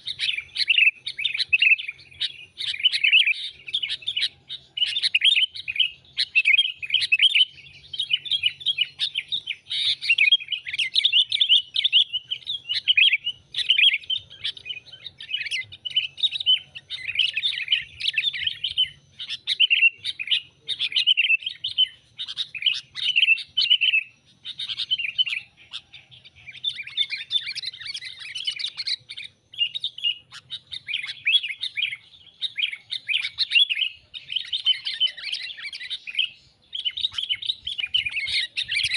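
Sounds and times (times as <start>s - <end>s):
bulbuls chirping: 0.0s - 38.9s.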